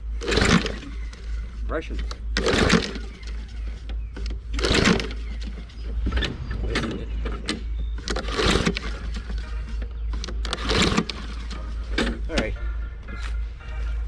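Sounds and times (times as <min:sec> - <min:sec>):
lawn mower engine turning over: 0:00.0 - 0:13.3.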